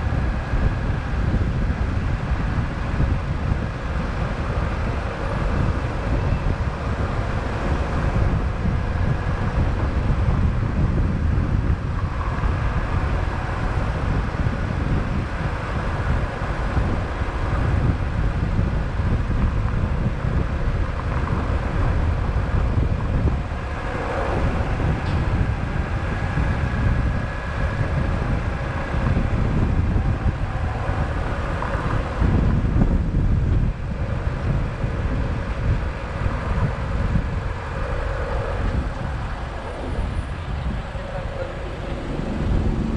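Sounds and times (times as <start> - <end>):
road and engine rumble: 0.0 - 42.9
wind buffeting microphone: 0.0 - 42.9.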